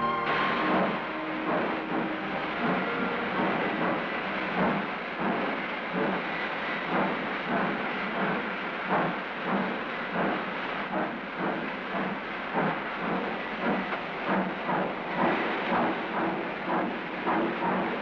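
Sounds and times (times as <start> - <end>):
steady rushing noise: 0.0 - 18.0
steam locomotive exhaust chuffs: 0.0 - 18.0.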